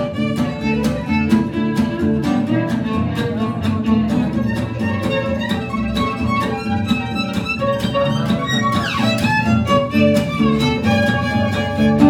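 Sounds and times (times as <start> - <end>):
plucked double bass: 0.0 - 12.0
strummed acoustic guitar: 0.0 - 12.0
violin melody: 0.0 - 12.0.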